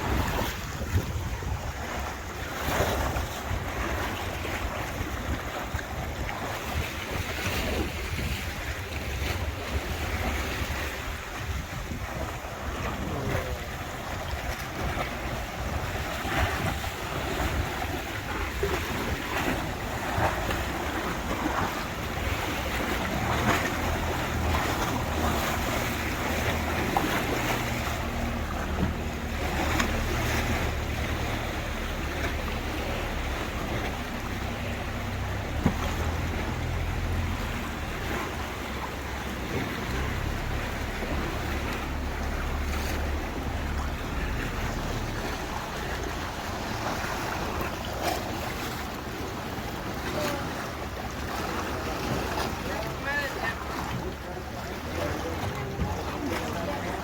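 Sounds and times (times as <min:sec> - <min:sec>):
wind buffeting microphone: 0:00.0 - 0:52.9
boat engine humming: 0:00.0 - 0:57.0
water splashing on hull: 0:00.0 - 0:57.0.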